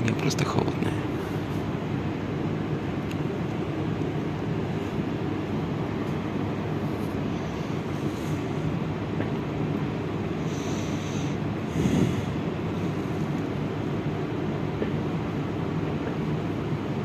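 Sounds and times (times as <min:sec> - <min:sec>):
metro train rumble and hum: 0:00.0 - 0:17.0.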